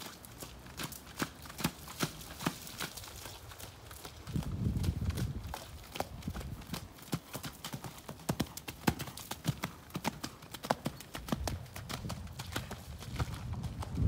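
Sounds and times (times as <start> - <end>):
horse hoofbeats trotting on wet sand: 0.0 - 14.0.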